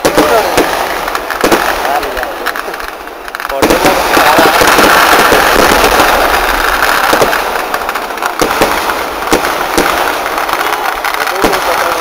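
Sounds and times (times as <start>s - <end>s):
firecracker crackle and bangs: 0.0s - 12.0s.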